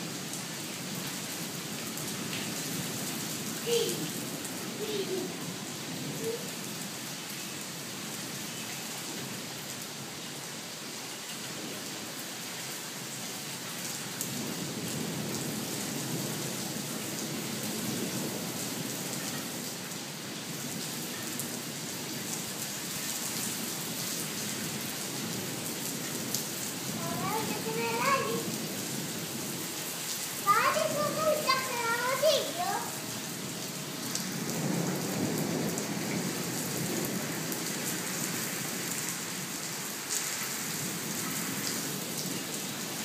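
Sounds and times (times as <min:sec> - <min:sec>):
rain falling on paving: 0:00.0 - 0:43.0.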